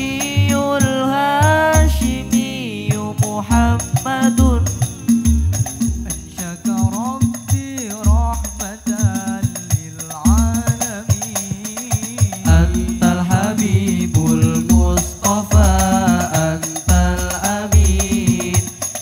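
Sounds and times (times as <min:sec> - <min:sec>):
men singing: 0:00.0 - 0:19.0
frame drums beating: 0:01.5 - 0:19.0.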